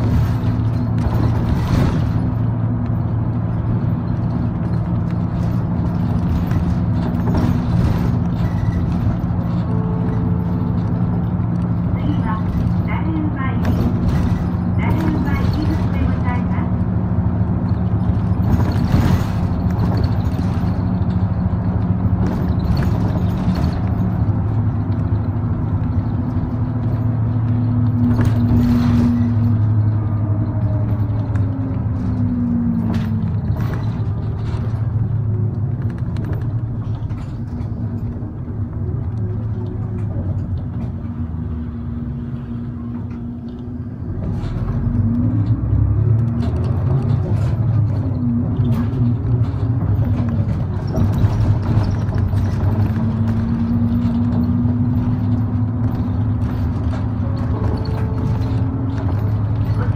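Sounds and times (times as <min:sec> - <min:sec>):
bus diesel engine: 0:00.0 - 0:59.9
light rattles and clicks: 0:00.0 - 0:59.9
road noise: 0:00.0 - 0:59.9.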